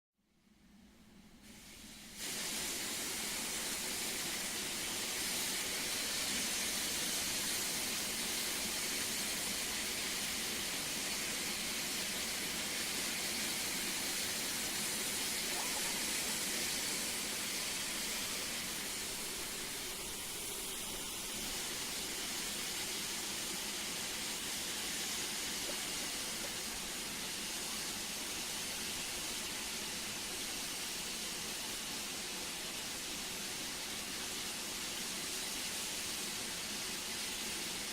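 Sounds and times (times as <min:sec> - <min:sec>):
loud hiss of escaping steam: 0:01.4 - 0:37.9.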